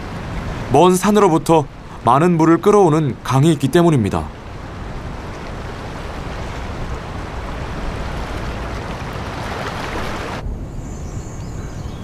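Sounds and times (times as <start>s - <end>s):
river water rushing: 0.0s - 10.4s
wind: 0.0s - 12.0s.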